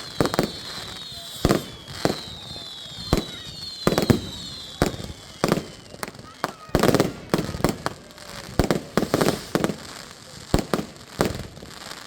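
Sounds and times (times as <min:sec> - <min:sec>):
firework whistling tones: 0:00.0 - 0:10.0
firework bangs: 0:00.0 - 0:12.0.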